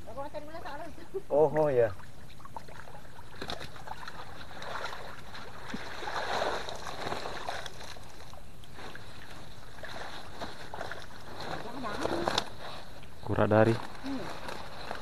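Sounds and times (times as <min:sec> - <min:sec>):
water sloshing and splashing: 0:01.4 - 0:15.0.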